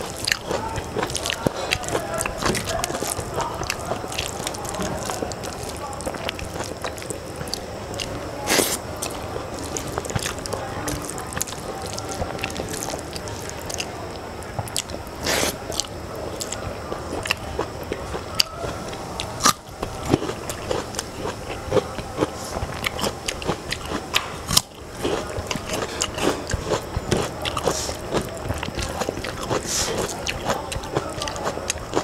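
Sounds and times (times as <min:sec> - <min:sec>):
chewing: 0:00.0 - 0:32.0.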